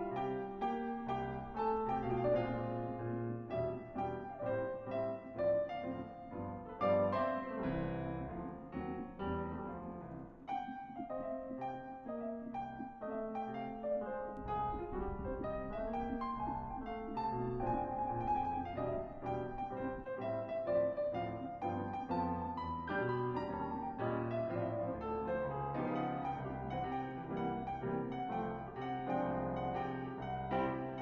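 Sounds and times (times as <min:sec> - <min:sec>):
gentle solo piano melody: 0:00.0 - 0:31.0.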